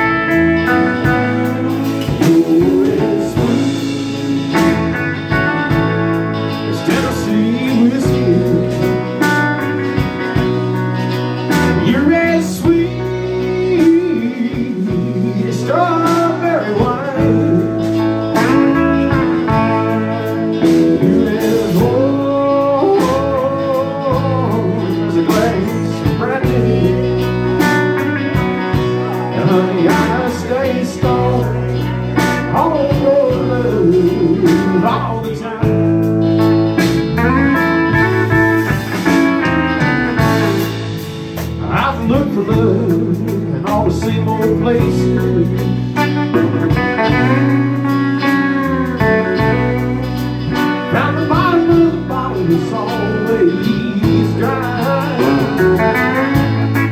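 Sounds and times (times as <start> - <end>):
drum kit: 0.0 - 56.9
electric bass: 0.0 - 56.9
electric guitars: 0.0 - 56.9.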